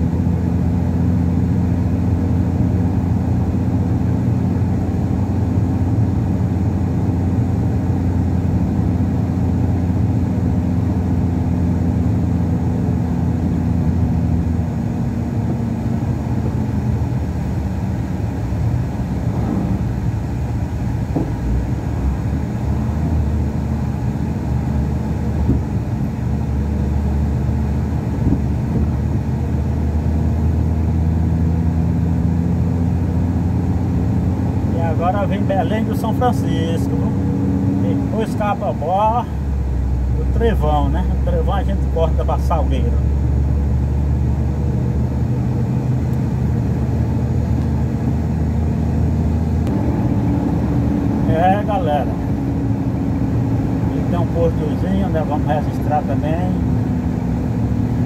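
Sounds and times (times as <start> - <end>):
truck engine droning: 0.0 - 58.0.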